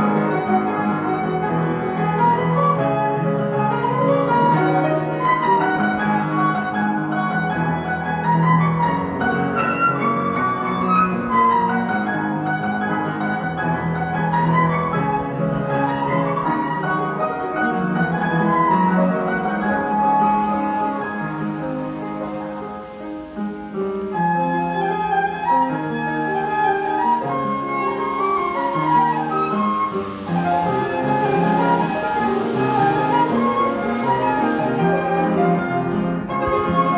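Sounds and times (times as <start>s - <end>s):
instrumental ensemble music: 0.0s - 36.9s.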